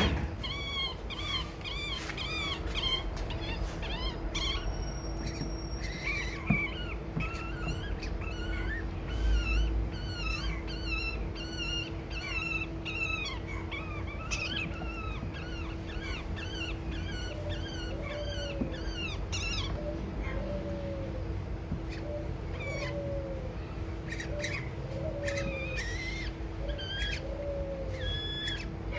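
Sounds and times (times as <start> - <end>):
baby birds chirping: 0.0 - 28.9.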